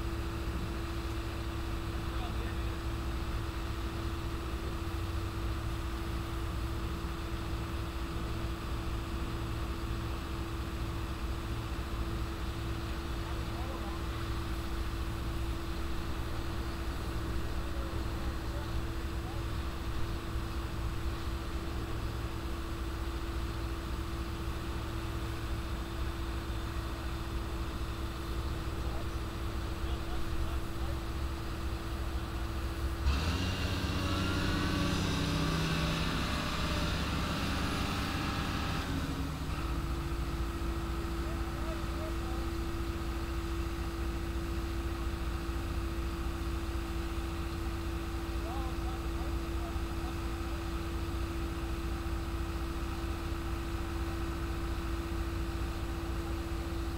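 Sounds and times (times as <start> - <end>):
constant hum: 0.0 - 56.9
engines idling: 0.0 - 56.9.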